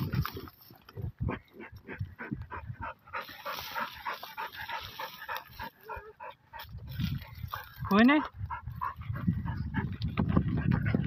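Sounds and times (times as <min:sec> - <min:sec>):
paws scraping dirt: 0:00.0 - 0:11.0.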